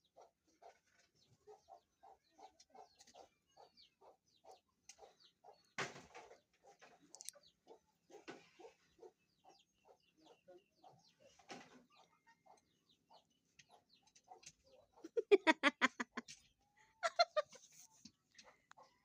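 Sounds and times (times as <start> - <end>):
chicken clucking: 0.1 - 19.0.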